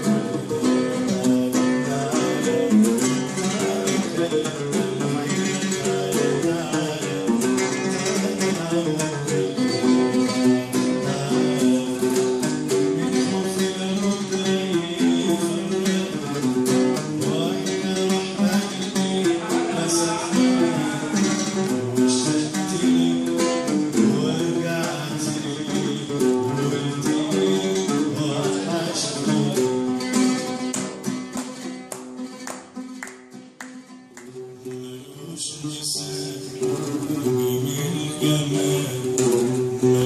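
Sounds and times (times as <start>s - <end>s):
oud melody picked with plectrum: 0.0s - 40.0s.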